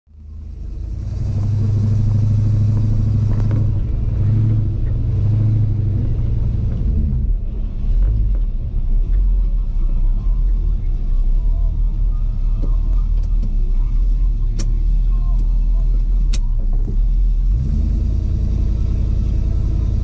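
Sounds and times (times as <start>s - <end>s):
car engine rumble from inside: 0.1s - 20.0s.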